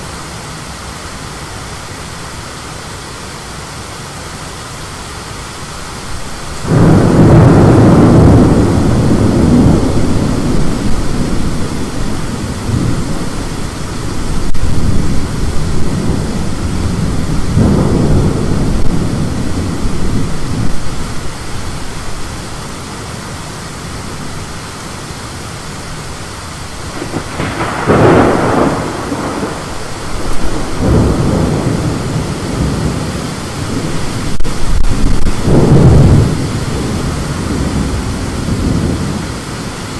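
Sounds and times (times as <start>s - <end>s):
steady rushing noise: 0.0s - 39.9s
thunder rumbling: 6.0s - 24.9s, 25.8s - 39.9s.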